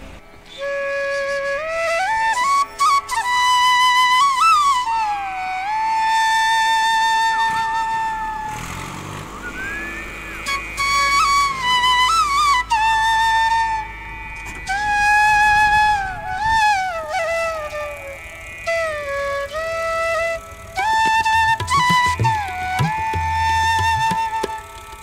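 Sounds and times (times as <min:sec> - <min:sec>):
solo flute playing: 0:00.0 - 0:25.0.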